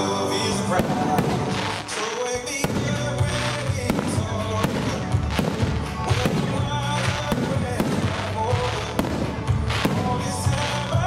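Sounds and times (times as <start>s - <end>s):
fireworks bursting: 0.0s - 11.0s
music playing: 0.0s - 11.0s.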